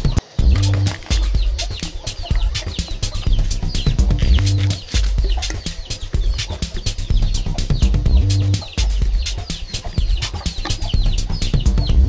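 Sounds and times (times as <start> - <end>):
background music: 0.0 - 12.0
chickens clucking: 0.0 - 12.0.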